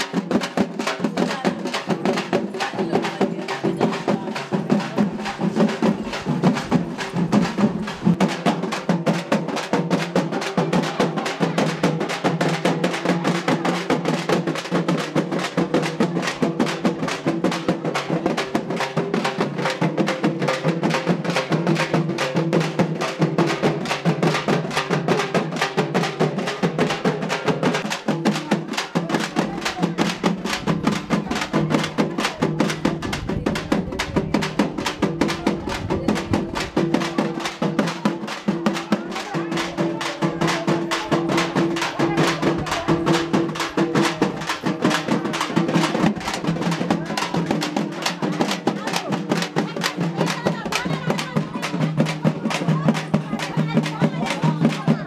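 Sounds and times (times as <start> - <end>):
drum band playing: 0.0 - 55.0.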